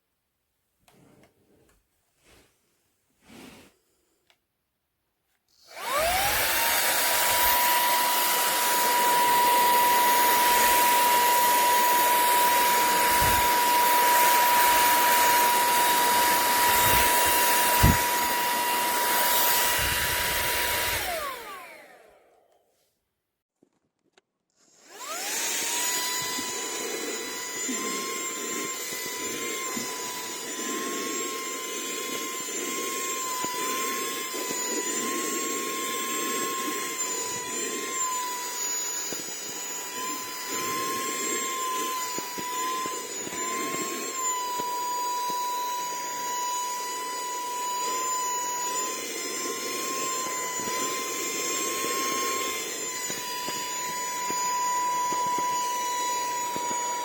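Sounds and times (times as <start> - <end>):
handheld vacuum whining: 5.5 - 22.6, 24.6 - 57.0.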